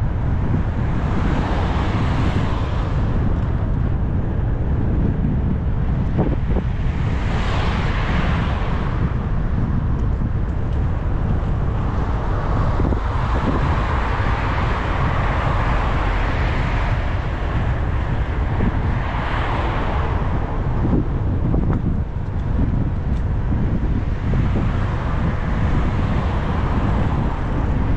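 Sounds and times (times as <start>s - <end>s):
passing cars tyre noise: 0.0s - 27.9s
wind buffeting microphone: 0.0s - 27.9s.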